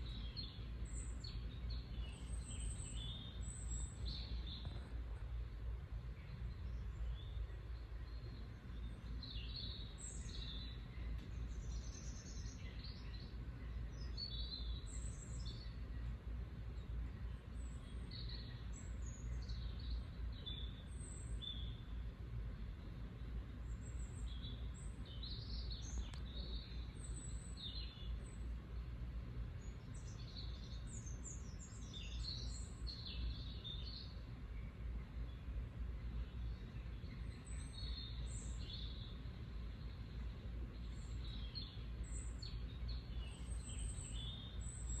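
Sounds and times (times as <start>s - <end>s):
bird chirping: 0.0s - 45.0s
steady low rumble: 0.0s - 45.0s.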